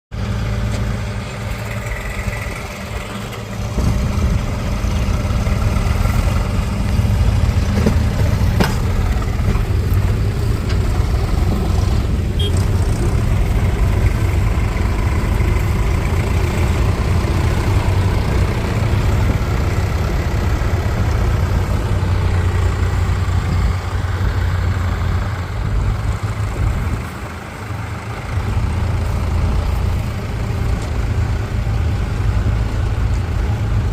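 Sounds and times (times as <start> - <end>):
heavy diesel machinery rumbling: 0.1 - 33.9.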